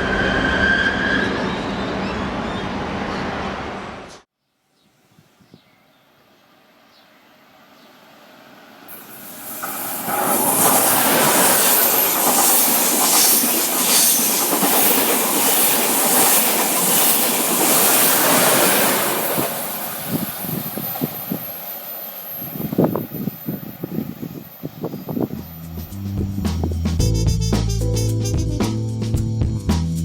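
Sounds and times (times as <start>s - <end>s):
train passing at speed: 0.0s - 4.2s, 6.3s - 27.0s.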